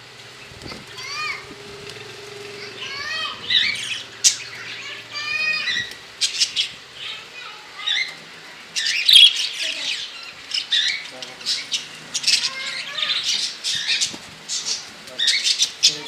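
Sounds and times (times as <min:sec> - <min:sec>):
parrots chirping and squawking: 0:00.4 - 0:16.0.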